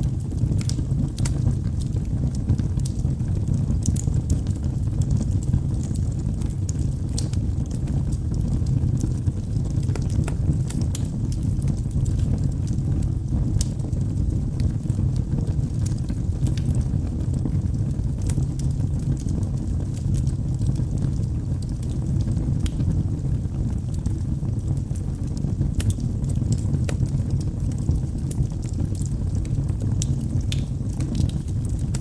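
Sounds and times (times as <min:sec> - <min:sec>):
wood fire burning: 0:00.0 - 0:32.0.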